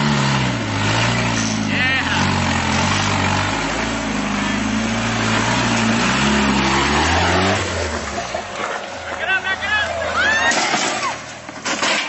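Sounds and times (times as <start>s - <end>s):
vehicle engine revving: 0.0s - 10.3s.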